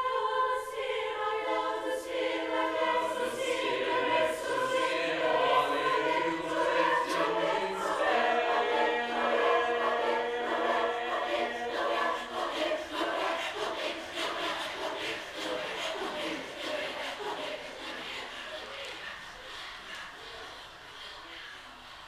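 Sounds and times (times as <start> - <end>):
group singing in held chords: 0.0 - 19.4.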